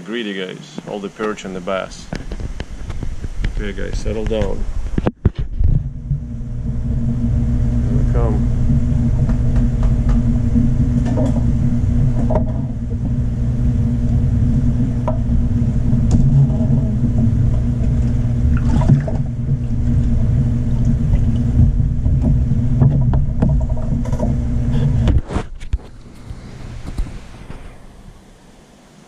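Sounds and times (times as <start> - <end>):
constant hum: 0.0 - 29.0
low underwater rumble: 2.3 - 28.3.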